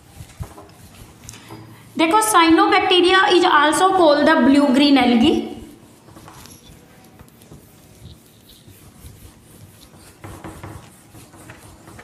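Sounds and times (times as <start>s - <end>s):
duster wiping whiteboard: 0.0s - 12.0s.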